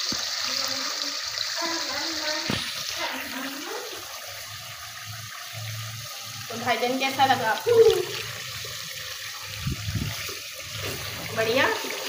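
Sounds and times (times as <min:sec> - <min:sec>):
oil hissing in frying pot: 0:00.0 - 0:12.0.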